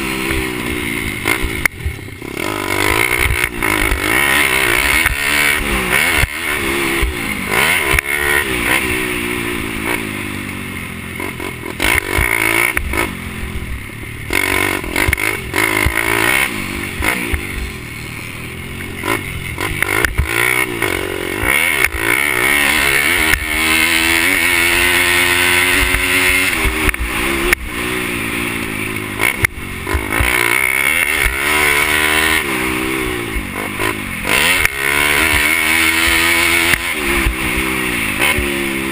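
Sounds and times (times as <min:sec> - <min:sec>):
pit bike engines revving: 0:00.0 - 0:38.9.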